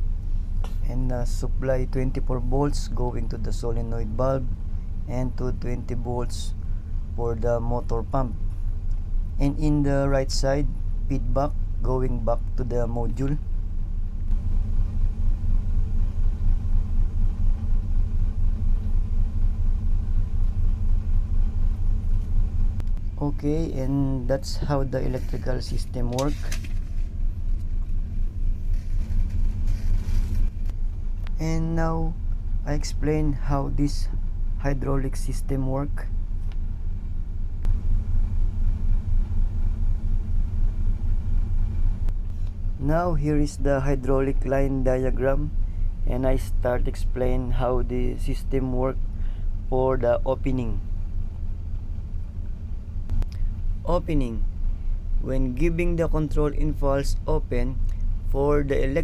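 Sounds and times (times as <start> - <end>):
ship machinery throbbing rumble: 0.0 - 59.0.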